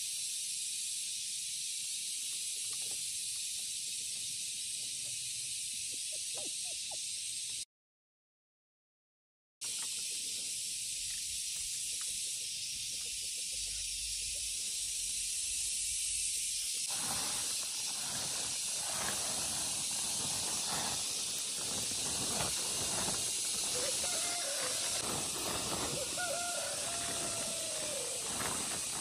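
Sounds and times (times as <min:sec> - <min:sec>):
high-pitched hiss: 0:00.0 - 0:07.7, 0:09.6 - 0:29.0.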